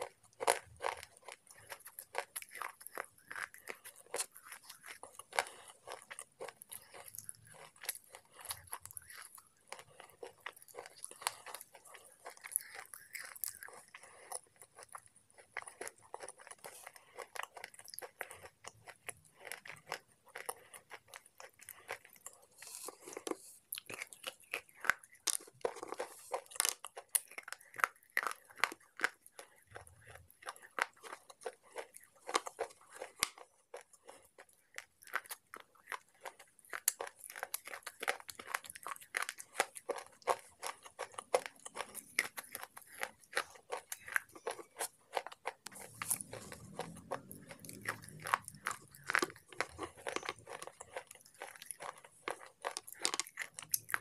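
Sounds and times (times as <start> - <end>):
pencils being chewed crunching: 0.0 - 54.0.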